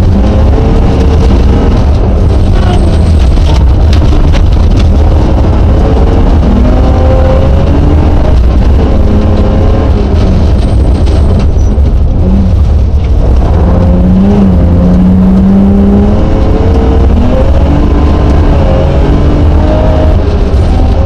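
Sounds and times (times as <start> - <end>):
rally car engine running hard: 0.0 - 21.0.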